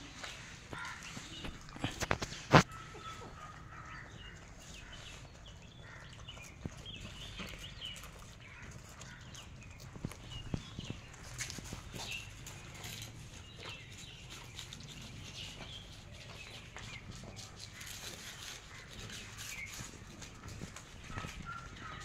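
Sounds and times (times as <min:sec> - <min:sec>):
puppies chewing and lapping: 0:00.0 - 0:22.0.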